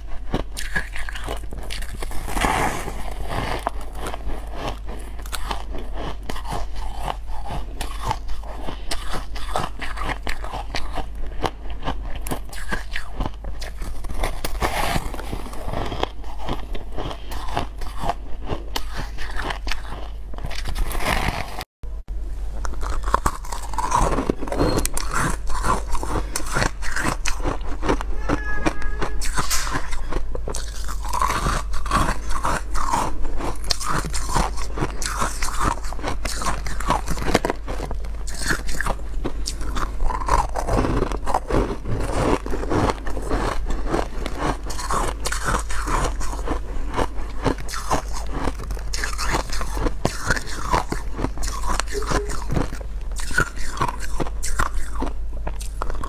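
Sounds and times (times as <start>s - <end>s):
crunching and chewing ice: 0.0s - 21.7s, 22.6s - 56.0s.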